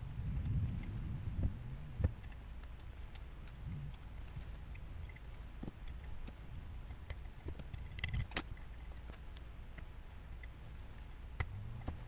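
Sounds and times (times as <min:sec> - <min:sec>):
low steady hum: 0:00.0 - 0:12.0
small metal parts clicking: 0:02.2 - 0:12.0.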